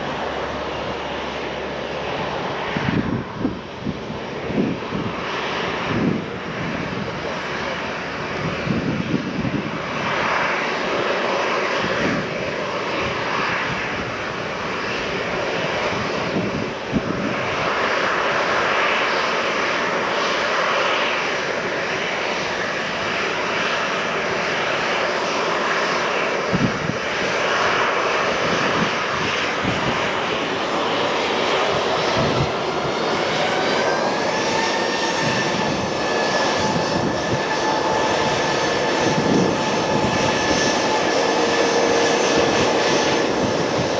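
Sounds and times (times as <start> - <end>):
jet engines taxiing: 0.0 - 43.9
rising engine whine: 0.0 - 43.9.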